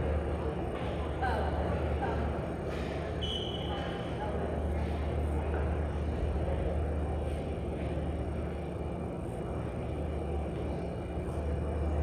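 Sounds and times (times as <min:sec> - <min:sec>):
low room hum and rumble: 0:00.0 - 0:12.0.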